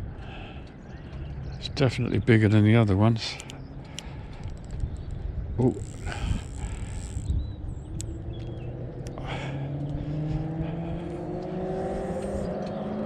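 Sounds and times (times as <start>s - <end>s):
distant engine droning: 0.0s - 13.0s
wind buffeting microphone: 0.0s - 13.0s.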